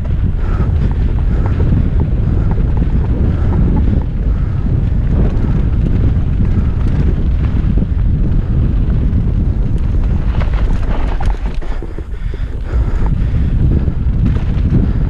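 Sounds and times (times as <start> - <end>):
bike clattering over rough ground: 0.0 - 15.0
bike tyre noise: 0.0 - 15.0
wind rushing over microphone: 0.0 - 15.0.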